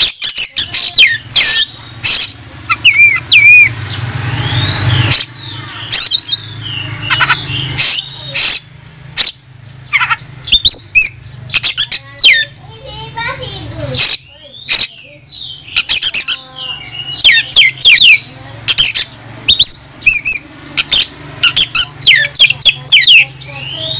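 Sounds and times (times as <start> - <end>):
magpie-robin singing: 0.0 - 23.9.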